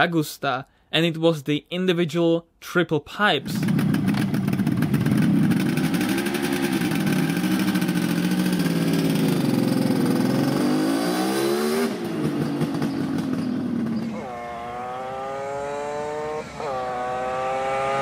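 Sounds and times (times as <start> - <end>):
two-stroke engine revving: 3.4 - 18.0.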